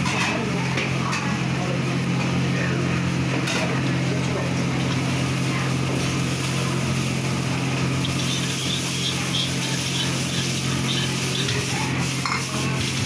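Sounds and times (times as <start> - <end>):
gas burner running: 0.0 - 13.0
noodles stir-frying in a wok: 0.0 - 13.0.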